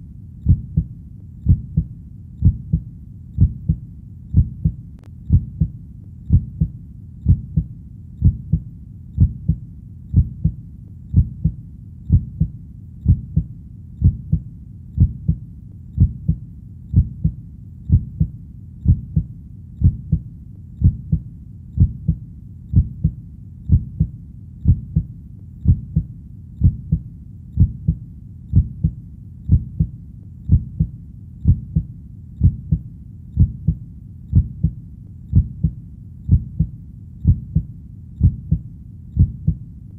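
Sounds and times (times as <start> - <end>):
heartbeat thumps: 0.0 - 39.6.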